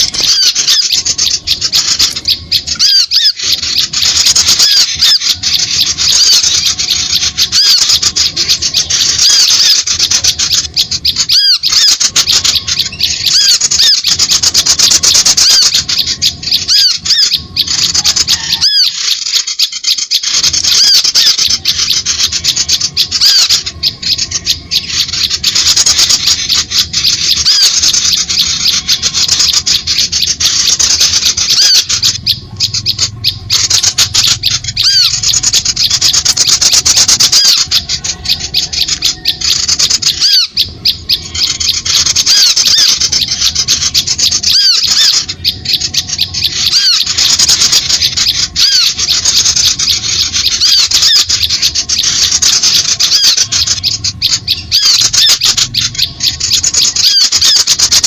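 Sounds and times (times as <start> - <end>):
small birds chirping and squawking: 0.0 - 58.0.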